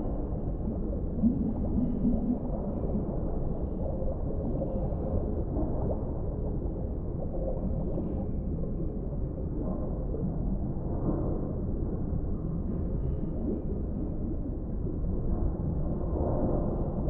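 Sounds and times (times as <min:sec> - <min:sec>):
low underwater rumble: 0:00.0 - 0:17.0.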